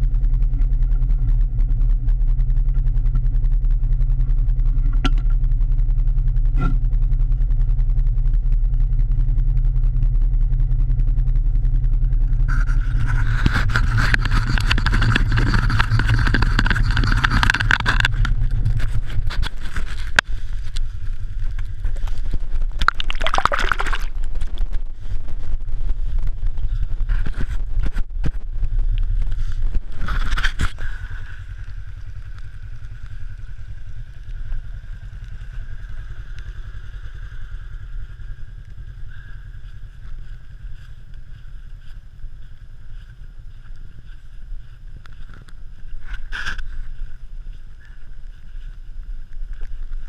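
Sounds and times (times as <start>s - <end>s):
engine idling: 0.0s - 50.0s
rush of broadband noise: 0.3s - 42.0s.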